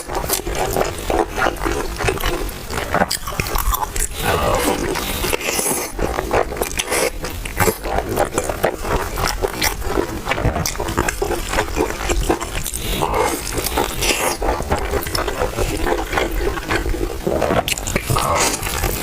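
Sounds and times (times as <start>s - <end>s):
person chewing crispy food: 0.0s - 19.0s.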